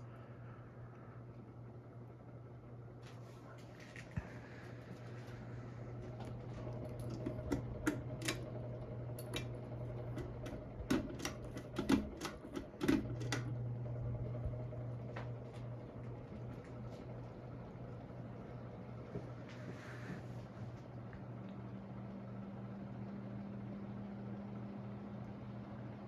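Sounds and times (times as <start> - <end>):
ceiling fan motor hum: 0.0 - 26.0.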